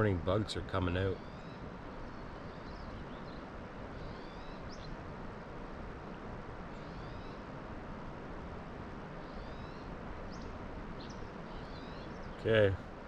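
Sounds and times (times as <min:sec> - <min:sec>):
birds chirping: 0:00.0 - 0:07.6, 0:08.6 - 0:13.0
steady background hiss: 0:00.0 - 0:13.0.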